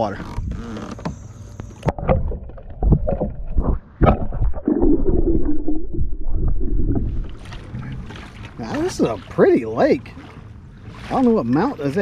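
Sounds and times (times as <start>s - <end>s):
water sloshing underwater: 0.0s - 12.0s.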